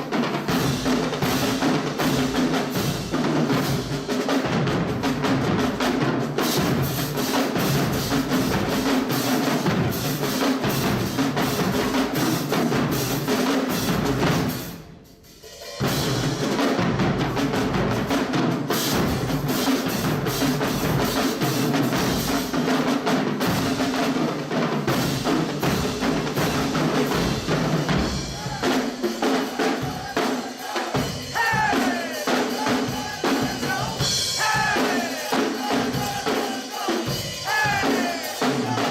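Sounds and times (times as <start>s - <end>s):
bass and snare drum beat: 0.0s - 38.9s.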